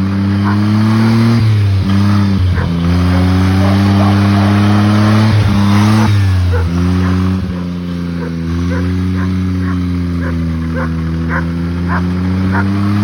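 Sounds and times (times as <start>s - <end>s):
buggy engine idling: 0.0s - 13.0s.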